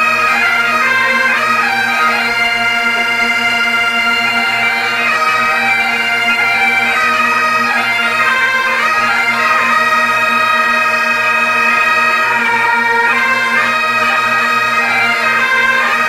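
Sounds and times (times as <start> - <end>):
bagpipe drone: 0.0 - 16.0
bagpipes playing folk melody: 0.0 - 16.0.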